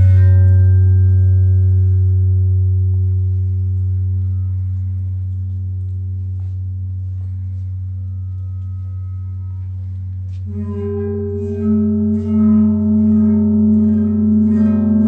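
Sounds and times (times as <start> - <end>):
low ringing tone: 0.0 - 15.0.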